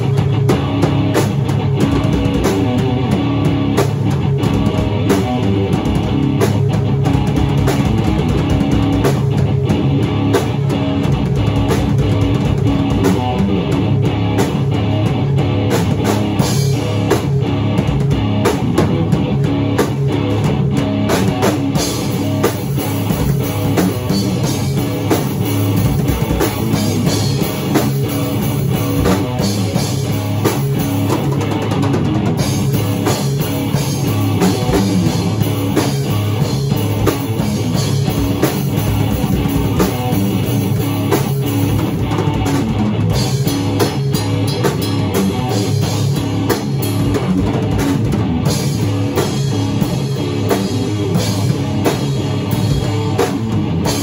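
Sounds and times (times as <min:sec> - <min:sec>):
drum kit: 0:00.0 - 0:54.0
rock guitar riff: 0:00.0 - 0:54.0.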